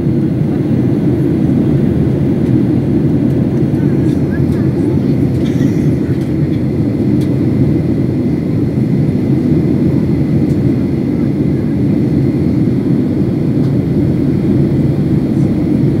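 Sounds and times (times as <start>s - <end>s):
airplane cabin drone: 0.0s - 16.0s.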